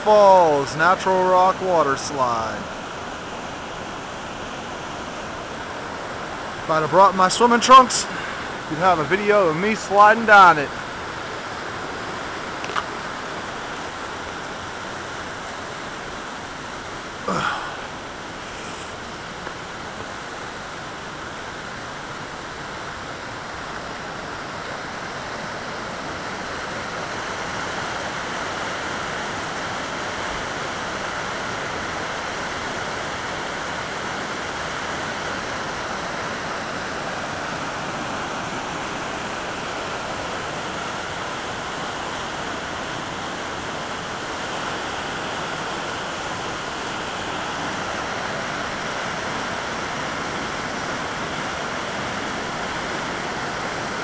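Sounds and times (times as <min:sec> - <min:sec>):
creek water rushing over rock: 0:00.0 - 0:54.0.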